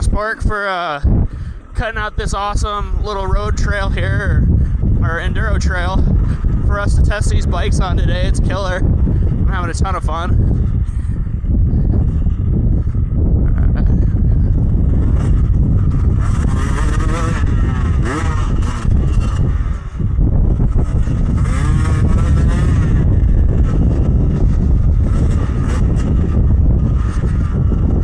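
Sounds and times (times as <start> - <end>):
dirt bike engine revving: 0.0 - 28.0
wind buffeting microphone: 0.0 - 28.0.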